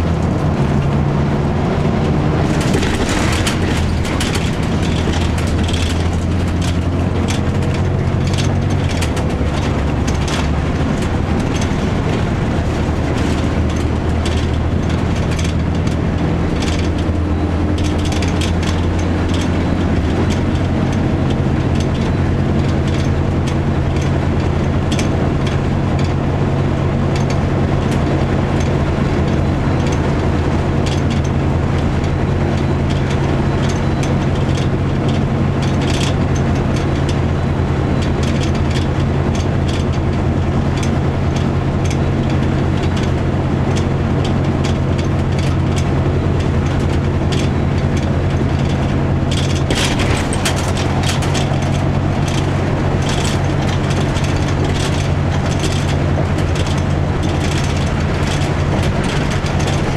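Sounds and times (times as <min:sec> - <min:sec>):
bus body rattles and clicks: 0:00.0 - 0:59.9
diesel bus engine drone: 0:00.0 - 0:59.9.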